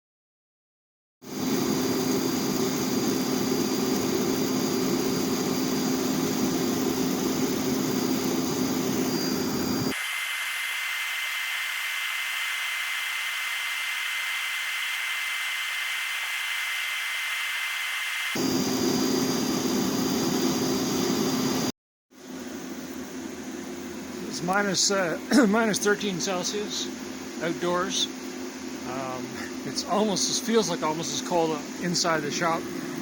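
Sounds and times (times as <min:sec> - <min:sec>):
heater fan and burner rushing: 0:01.2 - 0:33.0
thin hiss with high whine: 0:01.2 - 0:33.0.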